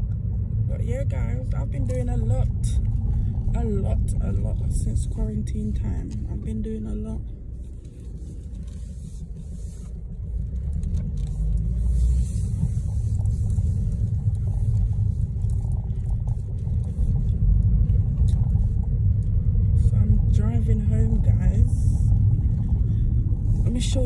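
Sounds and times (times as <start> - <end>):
car engine rumble from cabin: 0.0 - 24.0
road noise: 0.0 - 24.0.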